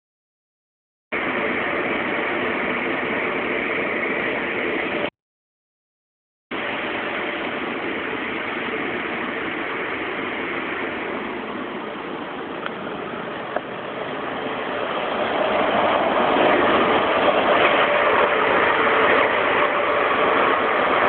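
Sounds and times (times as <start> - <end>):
car wash water spray and machinery: 1.2 - 5.1, 6.5 - 21.0.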